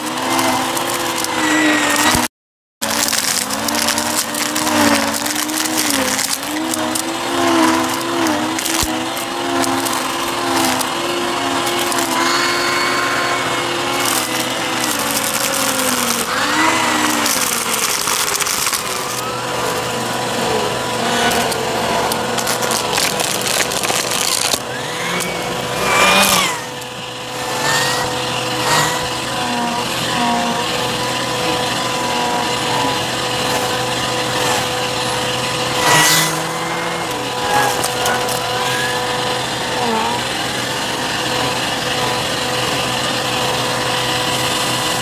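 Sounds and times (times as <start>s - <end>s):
debris rattling up nozzle: 0.0s - 39.9s
vacuum cleaner motor whine: 0.0s - 45.0s.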